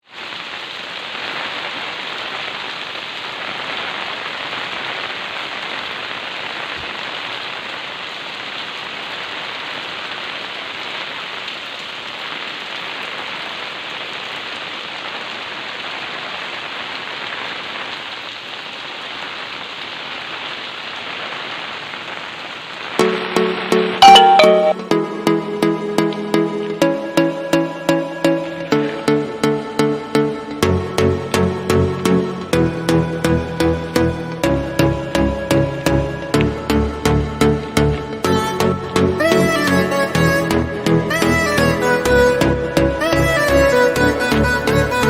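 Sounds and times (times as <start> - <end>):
steady rain falling: 0.0 - 25.2, 26.7 - 45.0.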